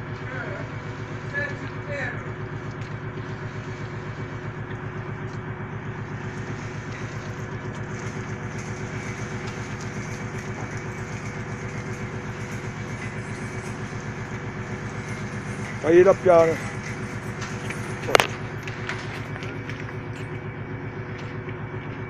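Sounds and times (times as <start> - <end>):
diesel engine throbbing: 0.0 - 22.0.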